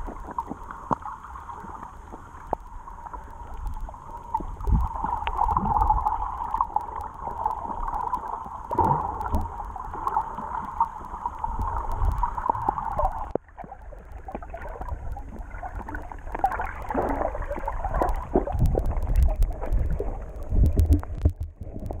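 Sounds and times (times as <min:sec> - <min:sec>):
crackling and gurgling water: 0:00.0 - 0:22.0
muffled underwater rush: 0:00.0 - 0:22.0.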